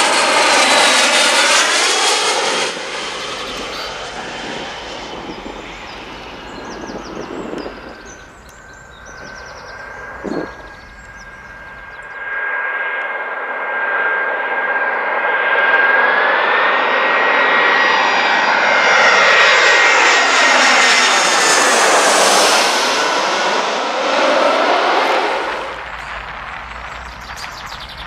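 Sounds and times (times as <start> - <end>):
jet airliner flying overhead: 0.0 - 28.0.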